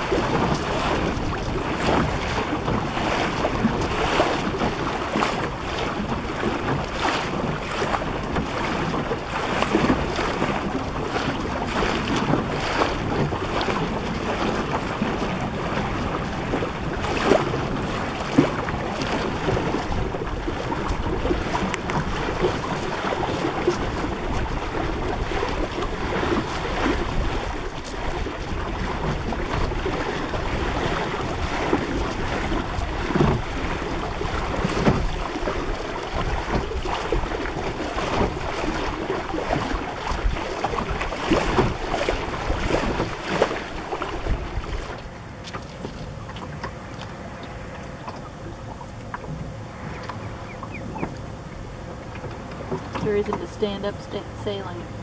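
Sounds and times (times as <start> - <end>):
wind buffeting microphone: 0.0 - 53.9
water slapping against boat hull: 0.0 - 55.0.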